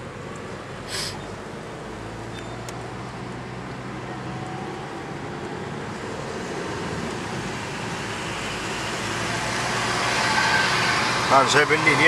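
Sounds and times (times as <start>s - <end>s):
car engine hum: 0.0s - 12.0s
road rush: 0.0s - 12.0s.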